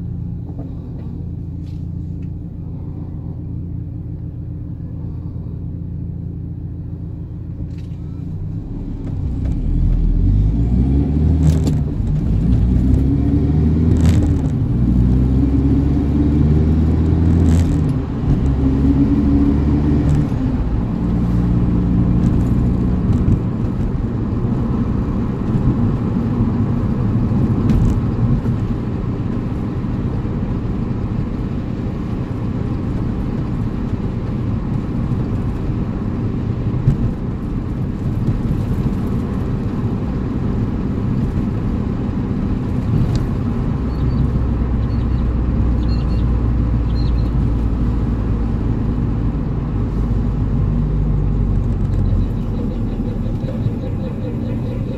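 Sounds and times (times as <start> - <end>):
car engine running: 0.0 - 54.9
road noise: 0.0 - 54.9.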